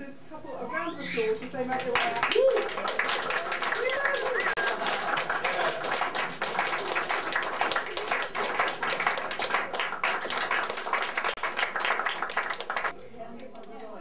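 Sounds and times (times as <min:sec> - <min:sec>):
crowd applauding: 0:01.3 - 0:13.0.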